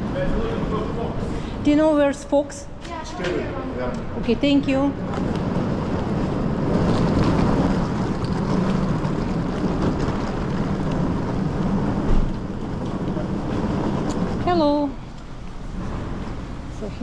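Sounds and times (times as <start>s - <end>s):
constant hum: 0.0s - 17.0s
low rumbling noise: 0.0s - 17.0s.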